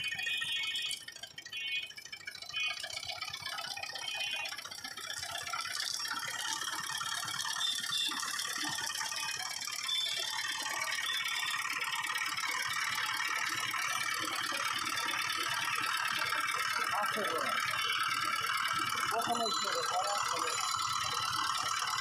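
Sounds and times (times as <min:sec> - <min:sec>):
juice crushing machine rattling: 0:00.0 - 0:22.0.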